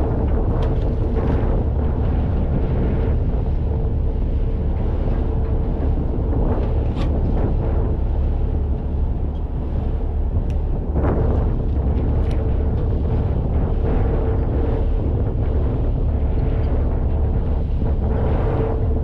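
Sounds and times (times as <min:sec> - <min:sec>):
boat engine droning: 0:00.0 - 0:19.0
wind buffeting microphone: 0:00.0 - 0:19.0.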